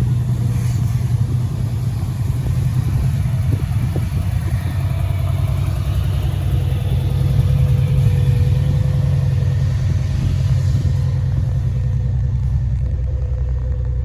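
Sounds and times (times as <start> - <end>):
engine rumbling steadily: 0.0 - 14.0.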